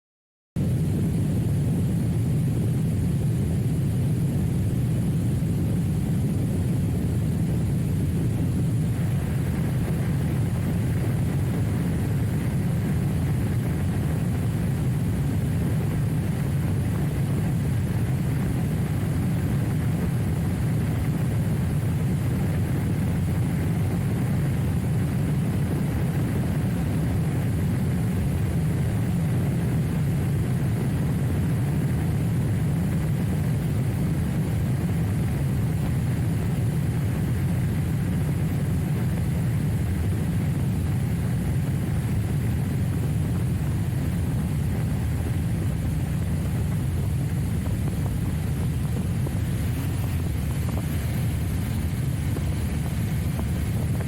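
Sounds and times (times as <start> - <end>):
motorcycle engine droning: 0.6 - 54.0.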